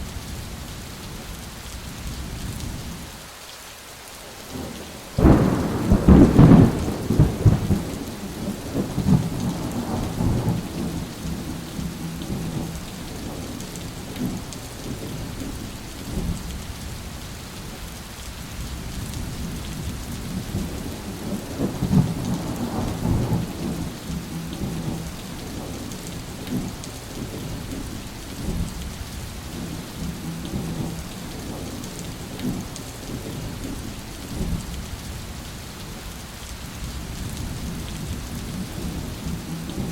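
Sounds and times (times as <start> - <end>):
steady rain: 0.0 - 39.9
thunder rumbling: 4.4 - 17.0, 18.6 - 35.1, 37.0 - 39.9.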